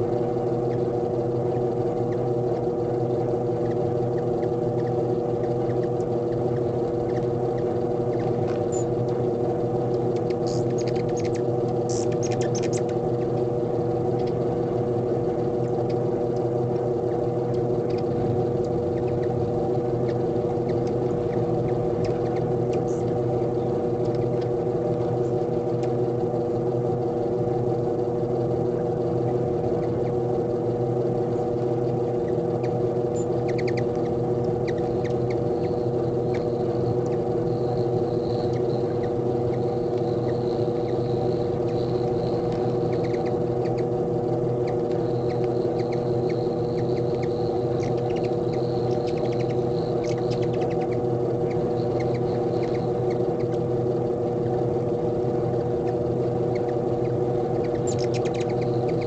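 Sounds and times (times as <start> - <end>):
low hum of fixed tones: 0.0 - 59.0
hummingbirds chipping and twittering: 0.1 - 59.0.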